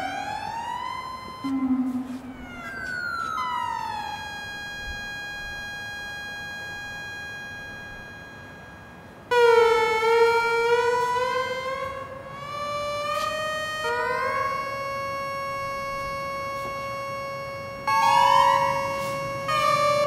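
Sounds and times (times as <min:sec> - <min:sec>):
synthesizer drone: 0:00.0 - 0:20.0.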